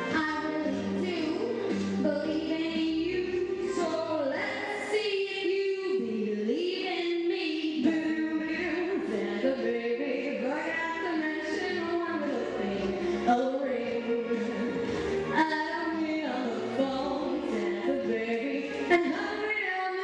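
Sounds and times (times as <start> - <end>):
pop backing track: 0.0 - 20.0
woman singing into a microphone: 0.0 - 20.0.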